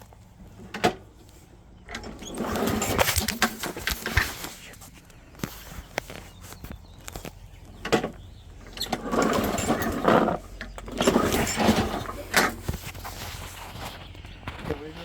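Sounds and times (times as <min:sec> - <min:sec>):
lawnmower engine pull-start whirr: 0:00.4 - 0:14.1.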